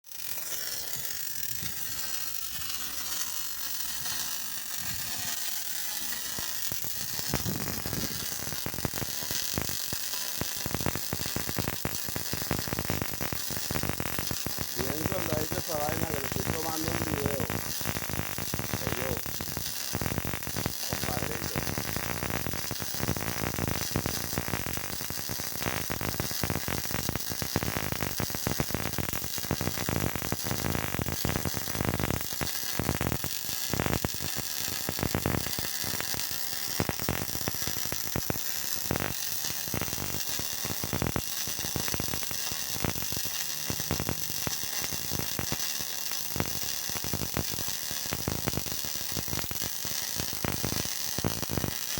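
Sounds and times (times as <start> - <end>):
welding arc crackling and hissing: 0.0 - 51.9.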